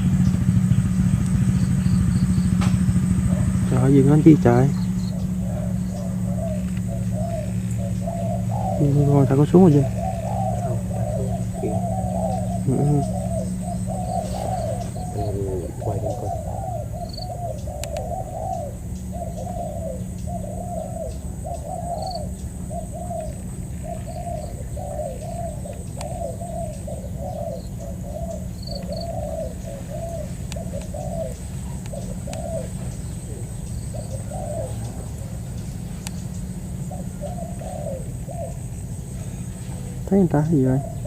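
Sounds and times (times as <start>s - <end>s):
doves cooing: 0.0s - 41.0s
low hum: 0.0s - 41.0s.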